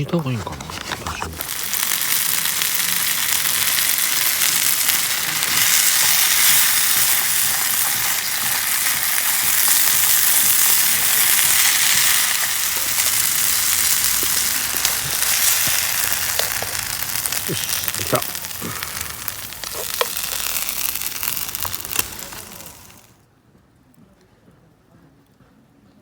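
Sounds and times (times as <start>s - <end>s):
meat sizzling in a pan: 1.4s - 23.2s
small pops of frying: 1.4s - 23.2s.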